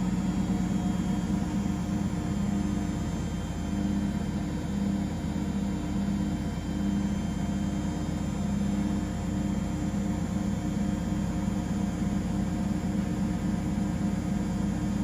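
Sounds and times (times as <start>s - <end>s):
washing machines running: 0.0s - 15.0s.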